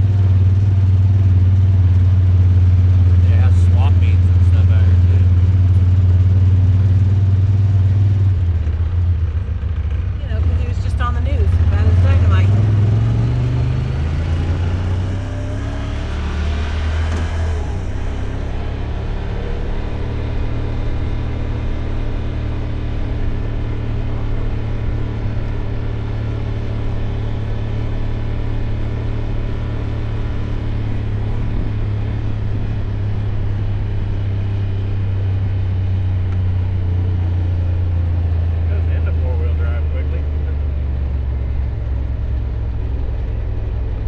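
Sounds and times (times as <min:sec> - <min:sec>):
road noise: 0:00.0 - 0:44.0
utility vehicle engine droning: 0:00.0 - 0:44.0.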